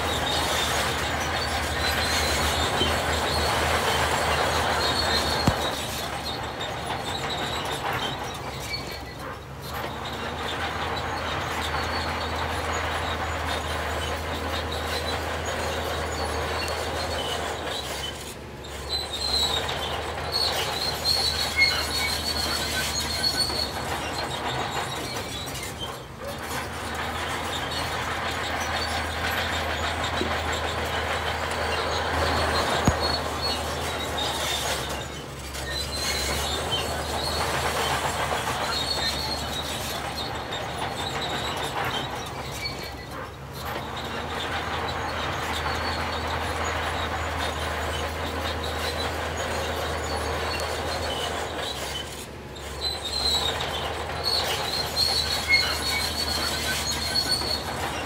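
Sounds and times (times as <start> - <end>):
heavy machine engine running: 0.0 - 58.0
metal squealing and clanking: 0.0 - 58.0.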